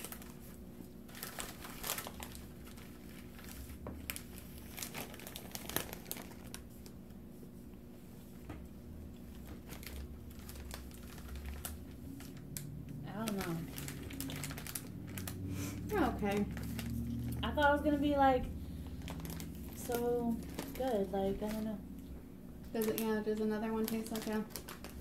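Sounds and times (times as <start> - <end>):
plastic bag crinkling: 0.0 - 7.0, 9.2 - 17.9, 18.7 - 25.0.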